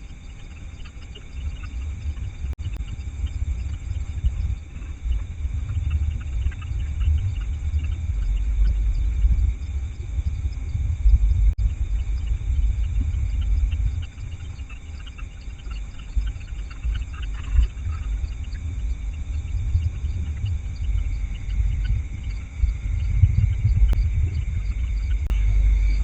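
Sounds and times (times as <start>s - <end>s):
crickets chirring: 0.0s - 26.0s
low rumbling microphone noise: 0.0s - 26.0s.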